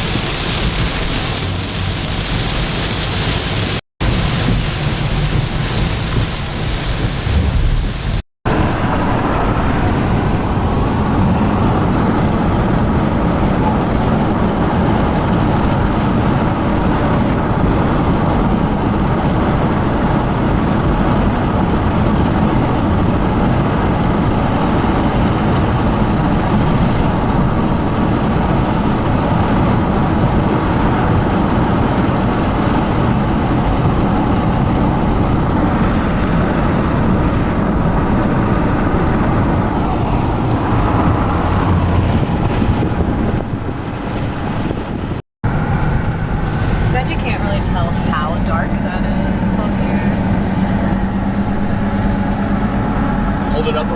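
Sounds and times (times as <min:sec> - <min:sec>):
road and wind noise: 0:00.0 - 0:53.9.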